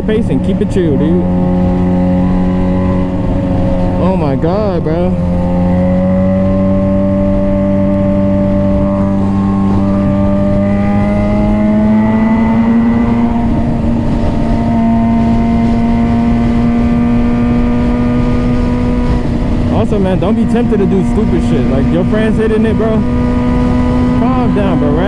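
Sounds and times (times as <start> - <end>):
motorcycle engine cruising: 0.0 - 25.0
wind rushing: 0.0 - 25.0.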